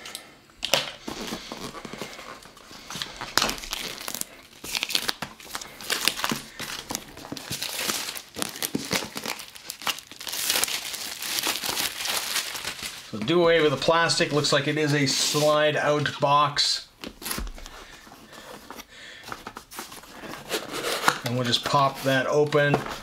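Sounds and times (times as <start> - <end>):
plastic wrap crinkling: 0.7 - 15.4, 17.0 - 23.0.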